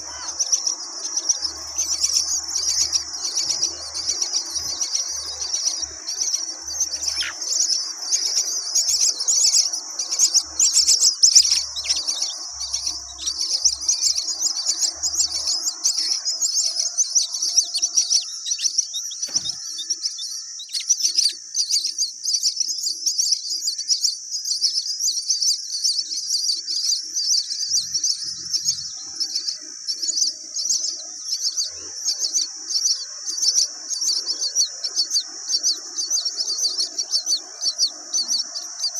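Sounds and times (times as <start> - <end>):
birds chirping in chorus: 0.0 - 38.9.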